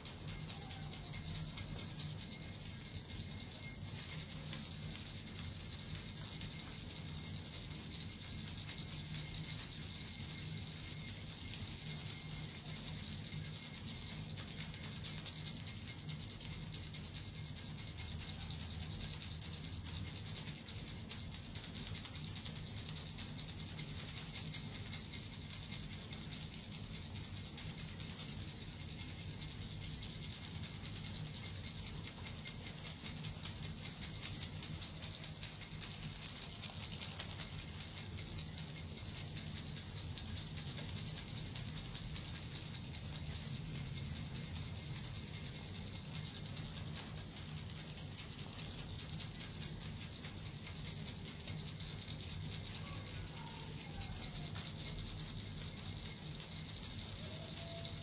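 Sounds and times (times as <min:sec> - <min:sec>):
bells jingling: 0:00.0 - 0:58.0.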